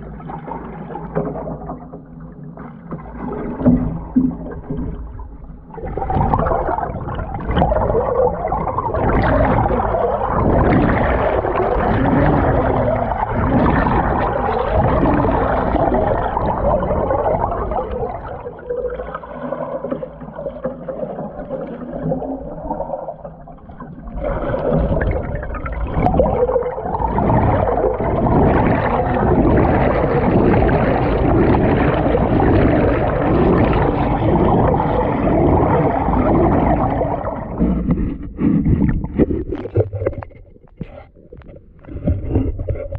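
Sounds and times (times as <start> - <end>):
underwater paddle strokes gurgling: 0.0 - 42.9.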